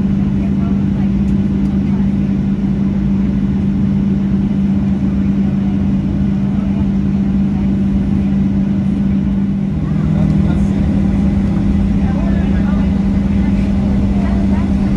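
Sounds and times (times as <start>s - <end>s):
airplane cabin engine noise: 0.0s - 14.9s.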